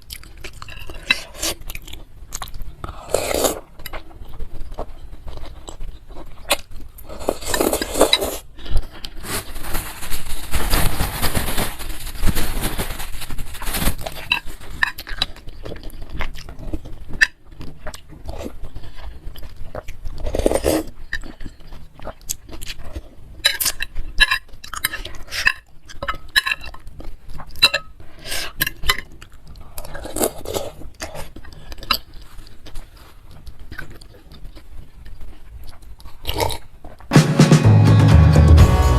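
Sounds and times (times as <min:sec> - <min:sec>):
chewing: 0:00.0 - 0:09.2, 0:14.1 - 0:37.1.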